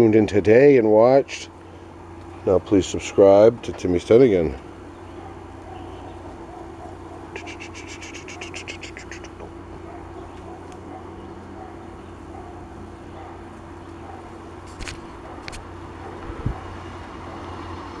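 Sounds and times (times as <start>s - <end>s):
low electrical hum: 0.0s - 17.5s.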